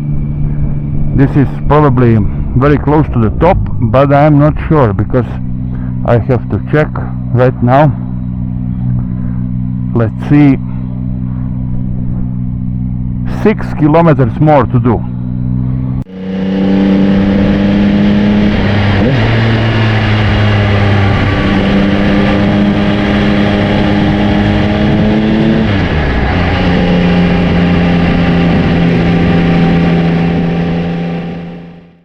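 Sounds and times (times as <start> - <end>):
motorcycle engine running under load: 0.0 - 2.8, 4.4 - 32.0.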